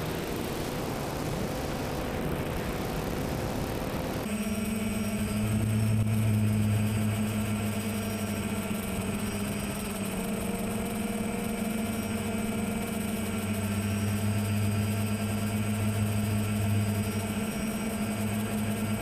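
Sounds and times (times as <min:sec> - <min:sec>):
quadcopter motors humming: 0:00.0 - 0:19.0.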